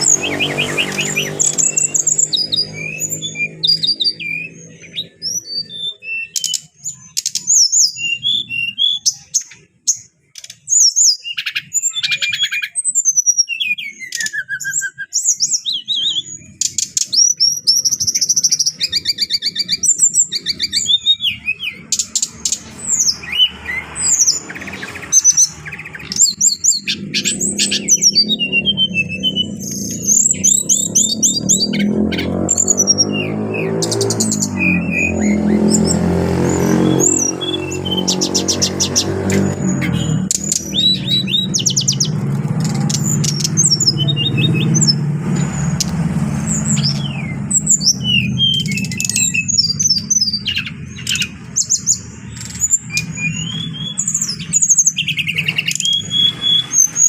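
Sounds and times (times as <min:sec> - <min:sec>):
bird singing whistled notes and trills: 0:00.0 - 0:57.0.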